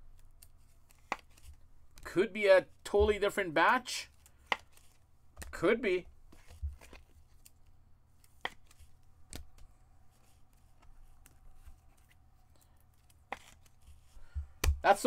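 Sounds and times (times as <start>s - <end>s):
cards and wrappers handled: 0.0s - 15.0s.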